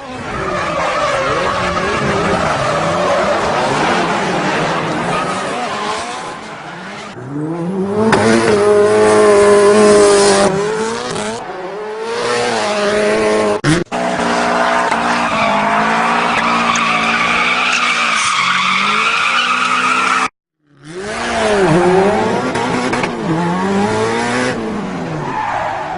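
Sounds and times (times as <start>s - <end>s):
tyres skidding: 0.0s - 20.3s, 21.1s - 25.9s
rally car engine revving: 0.0s - 25.9s.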